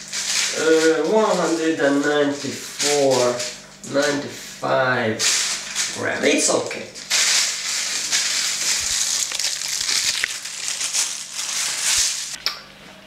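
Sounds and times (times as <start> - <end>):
plastic bag crinkling: 0.0 - 4.2, 5.2 - 12.4.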